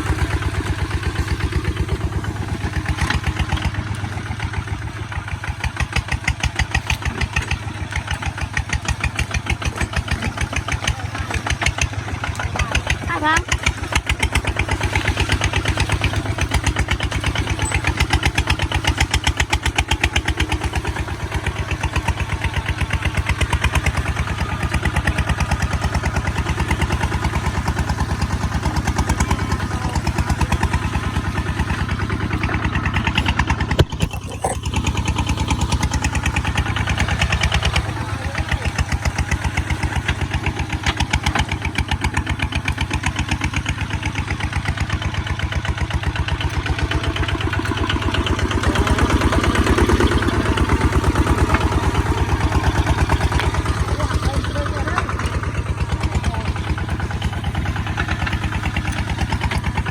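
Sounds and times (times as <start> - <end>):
tractor diesel engine chugging: 0.0 - 59.9.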